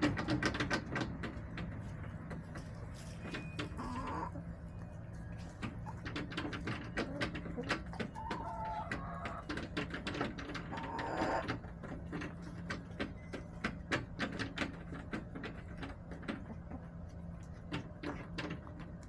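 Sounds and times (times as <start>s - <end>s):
chickens pecking hard surface: 0.0s - 19.0s.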